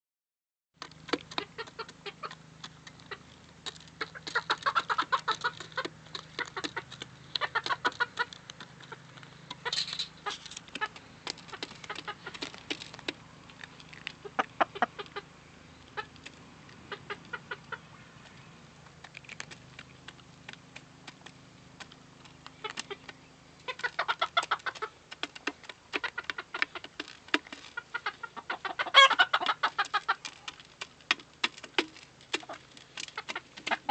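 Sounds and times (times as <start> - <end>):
chickens clucking: 0.8 - 33.9.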